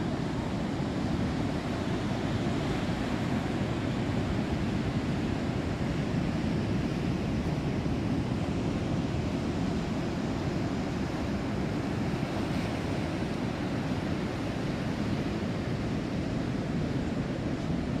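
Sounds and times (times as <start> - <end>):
ocean surf on sand: 0.0 - 18.0.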